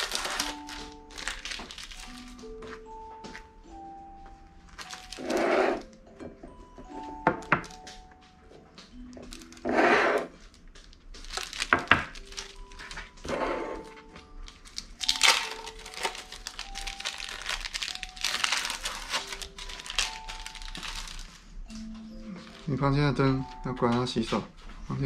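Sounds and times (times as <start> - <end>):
plastic wrappers crinkling: 0.0 - 3.4, 4.6 - 6.1, 7.0 - 8.0, 8.8 - 24.4.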